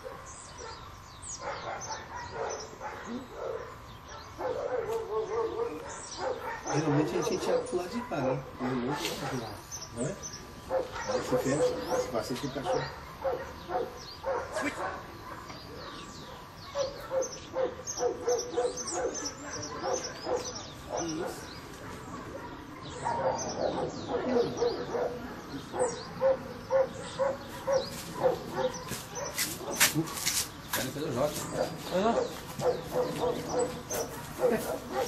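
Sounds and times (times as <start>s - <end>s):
dog barking: 0.0s - 0.8s, 1.4s - 9.6s, 10.7s - 29.8s, 31.5s - 35.0s
birds chirping: 0.0s - 35.0s.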